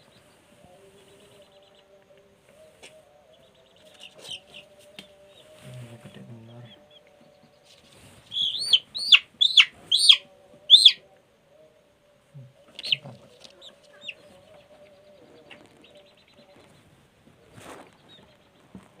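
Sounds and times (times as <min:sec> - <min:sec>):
chickens calling: 0:00.0 - 0:11.1, 0:12.4 - 0:18.9.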